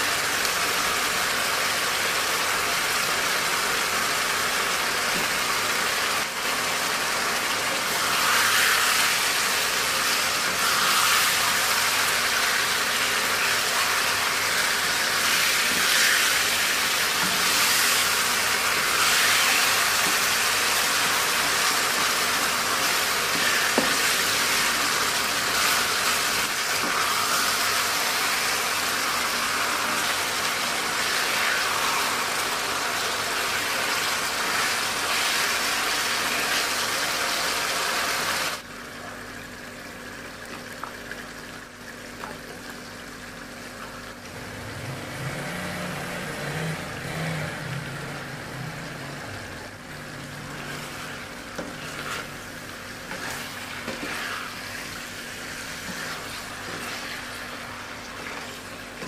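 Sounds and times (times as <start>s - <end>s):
food sizzling in hot oil: 0.0s - 38.6s, 44.0s - 59.0s.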